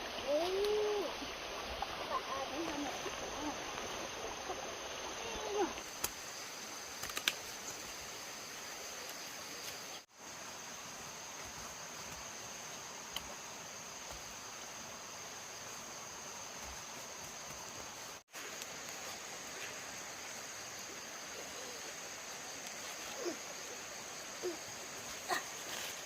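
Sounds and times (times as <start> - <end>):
insects chirring: 0.0 - 26.0
outdoor hiss: 0.0 - 26.0.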